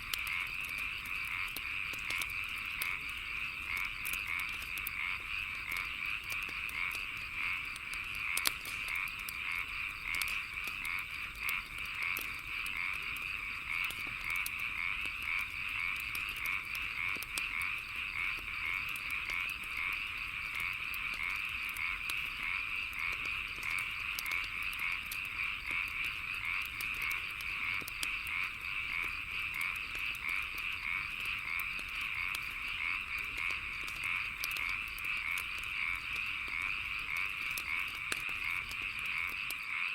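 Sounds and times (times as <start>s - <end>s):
frogs croaking: 0.0s - 39.9s
wood fire crackling and popping: 0.0s - 39.9s.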